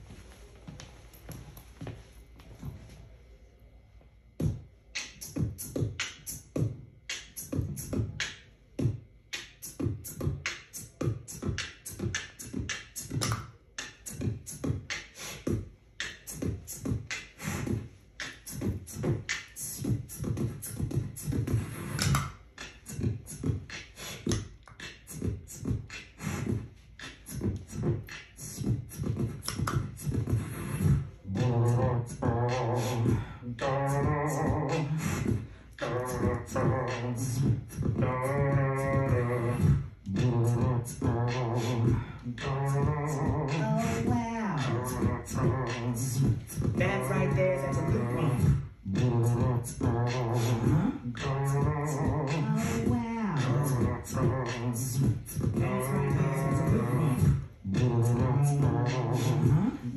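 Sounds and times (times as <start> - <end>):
beatboxing rhythm: 4.3 - 59.9
low pitched vocal line: 9.5 - 59.9.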